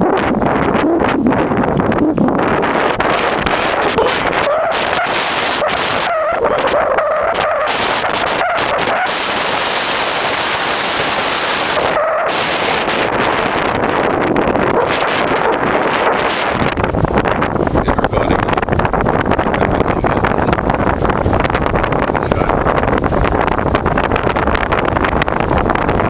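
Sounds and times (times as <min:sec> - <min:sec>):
wavering wind whine: 0:00.0 - 0:26.0
wind buffeting microphone: 0:00.0 - 0:26.0.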